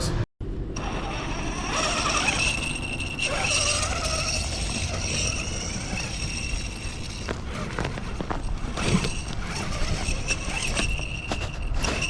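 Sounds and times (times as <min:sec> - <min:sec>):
electric motor whining: 0:00.8 - 0:12.0.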